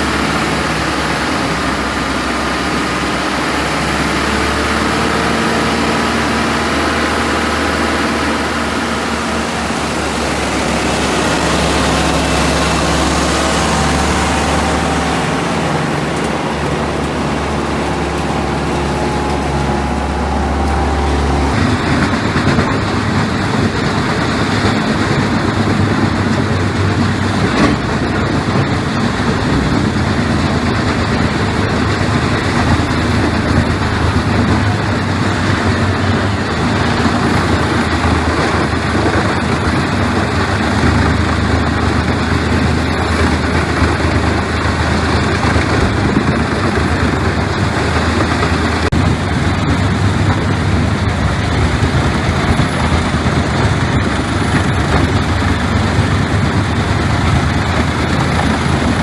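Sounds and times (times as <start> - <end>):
loud mechanical noise: 0.0 - 59.0
low engine hum: 0.0 - 59.0.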